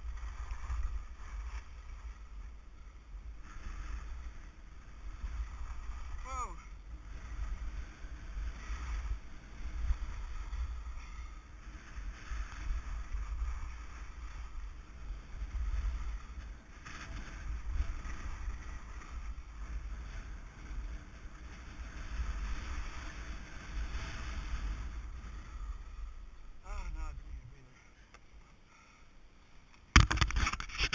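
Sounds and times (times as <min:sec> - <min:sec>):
skis scraping over snow: 0:00.0 - 0:28.1.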